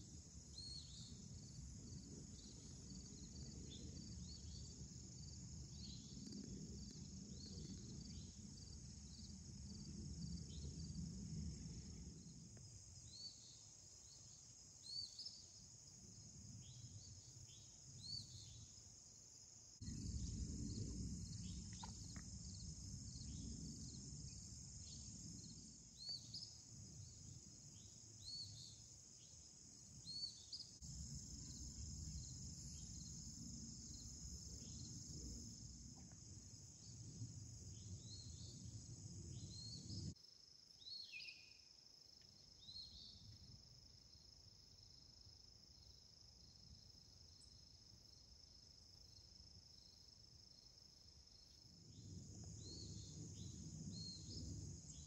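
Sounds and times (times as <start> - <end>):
insect chirps: 0.0 - 55.0
insect chorus buzzing: 0.0 - 55.0.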